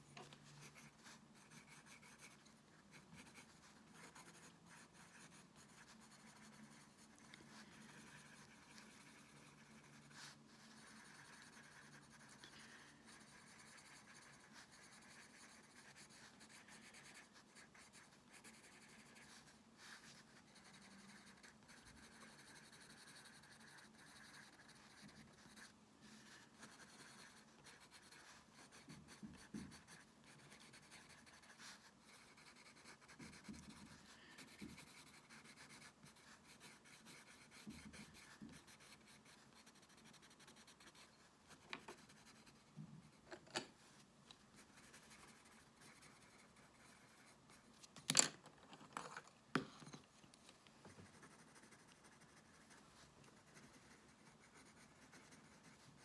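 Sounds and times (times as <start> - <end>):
pencil crayon scratching paper: 0.0 - 43.7, 44.5 - 47.9, 50.8 - 56.0.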